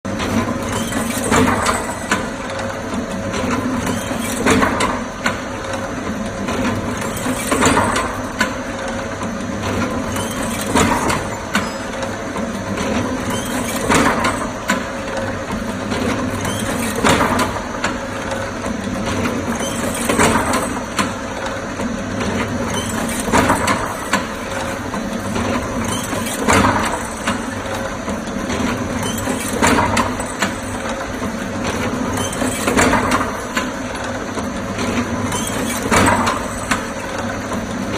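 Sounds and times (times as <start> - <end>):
machine clatter and hiss bursts: 0.1 - 37.9.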